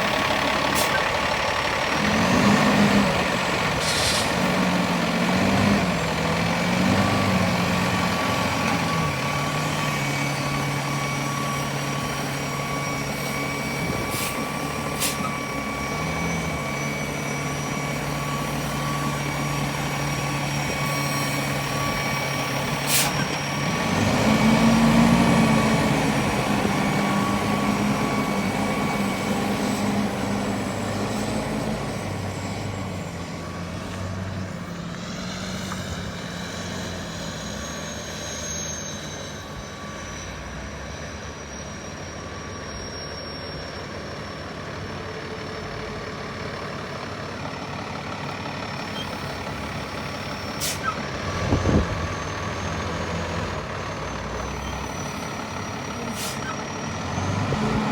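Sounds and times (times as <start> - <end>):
truck engine running: 0.0 - 38.7, 43.4 - 57.9.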